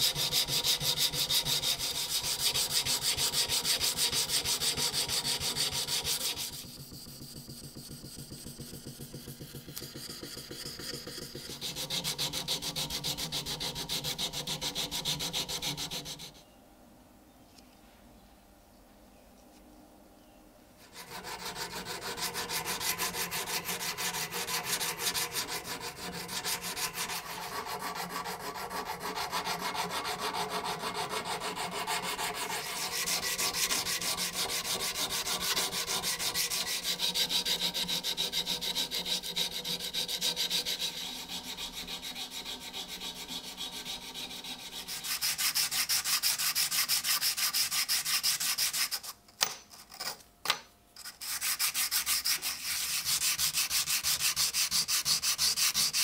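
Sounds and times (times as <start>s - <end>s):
hand sanding strokes: 0.0s - 16.4s, 20.8s - 49.2s, 51.0s - 56.0s.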